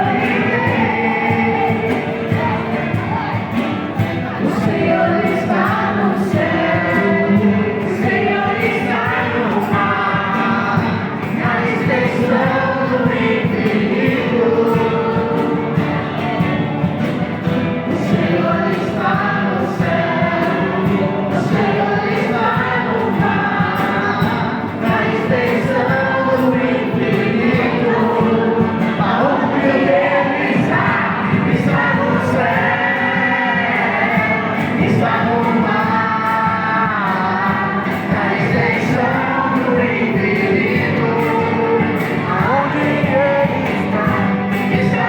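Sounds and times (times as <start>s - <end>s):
choir singing: 0.0s - 45.0s.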